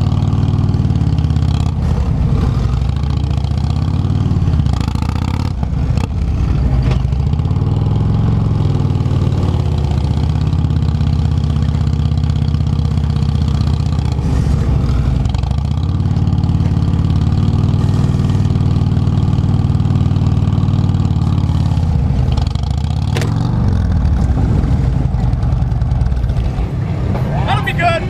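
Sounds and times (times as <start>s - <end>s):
motorcycle engine at low revs: 0.0s - 27.3s.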